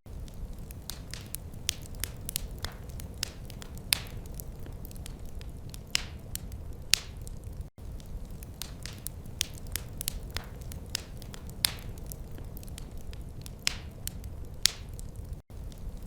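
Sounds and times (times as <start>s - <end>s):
wood fire crackling: 0.1s - 16.0s.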